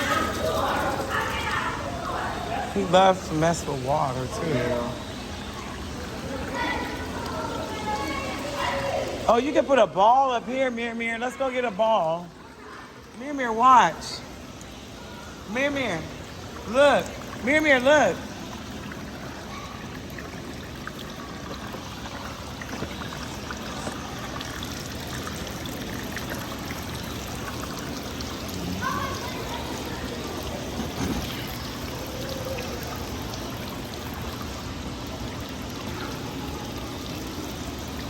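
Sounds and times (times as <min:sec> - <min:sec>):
water running and trickling: 0:00.0 - 0:38.0.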